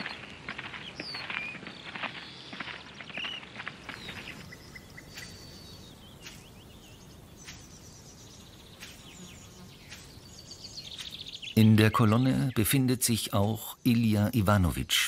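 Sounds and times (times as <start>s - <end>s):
birds chirping and calling: 0.0s - 15.0s
outdoor background noise: 0.0s - 15.0s.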